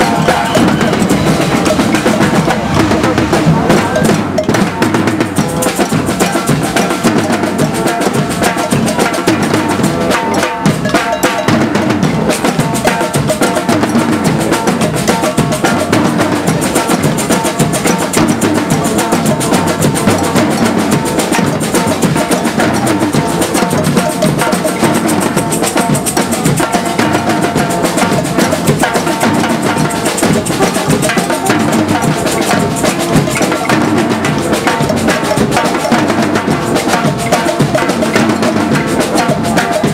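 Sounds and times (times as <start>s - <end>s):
drum corps playing: 0.0s - 39.9s.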